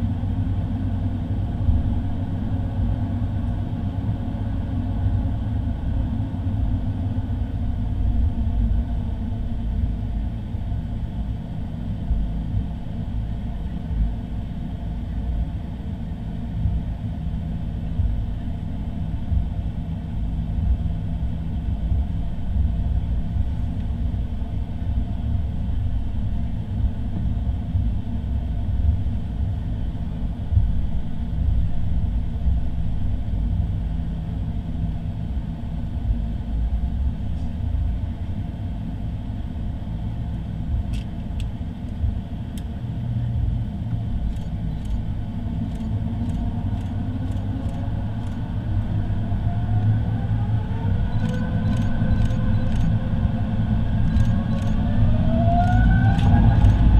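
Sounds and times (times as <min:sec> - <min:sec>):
jet engine rising whine: 0:00.0 - 0:56.9
jet engines low rumble: 0:00.0 - 0:56.9.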